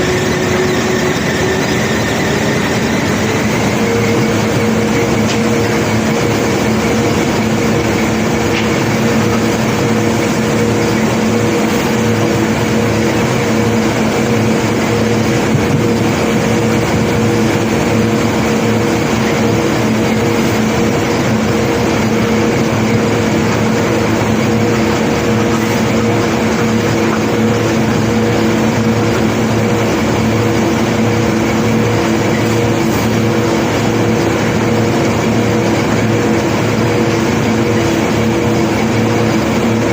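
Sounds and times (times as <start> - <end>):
heavy machinery droning hum: 0.0 - 39.9.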